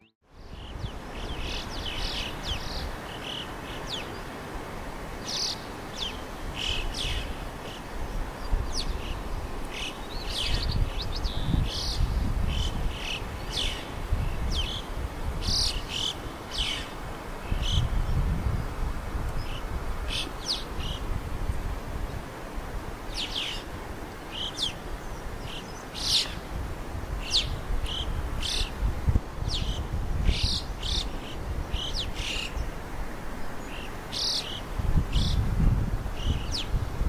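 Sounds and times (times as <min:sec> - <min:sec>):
birds chirping: 0:00.0 - 0:04.4, 0:05.2 - 0:21.1, 0:23.1 - 0:26.5, 0:27.2 - 0:28.8, 0:29.4 - 0:32.8, 0:33.5 - 0:35.5.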